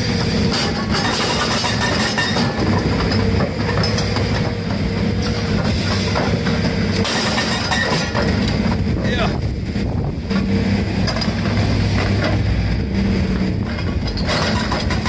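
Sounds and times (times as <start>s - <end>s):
hydraulic breaker pounding: 0.0s - 9.1s, 9.9s - 15.0s.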